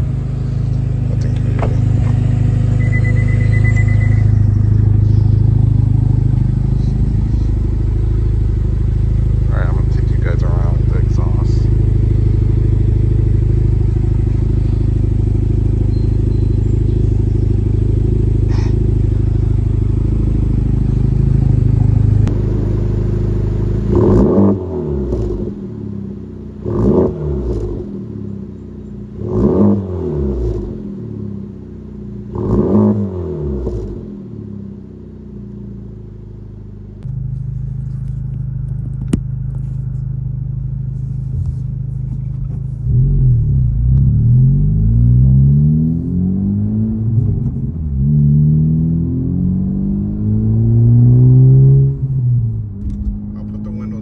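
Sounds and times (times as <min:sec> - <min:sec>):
engine rev blips: 0:00.0 - 0:31.5, 0:32.3 - 0:34.4, 0:41.2 - 0:54.0
car exhaust drone: 0:00.0 - 0:54.0.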